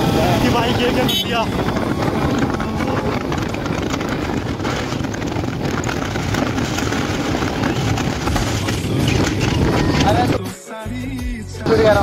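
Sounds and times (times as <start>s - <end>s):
motorcycle engine and wind rush: 0.0s - 10.5s, 11.6s - 12.0s.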